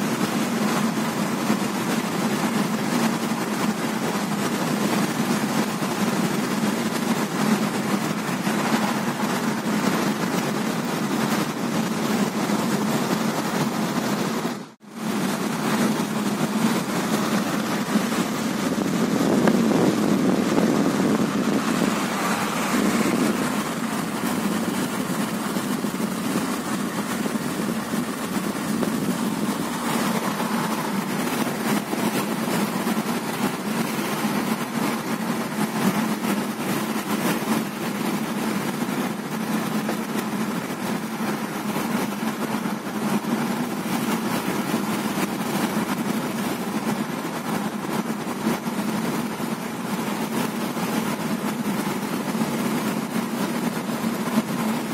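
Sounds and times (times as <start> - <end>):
car engine and tyre noise: 0.0 - 54.9.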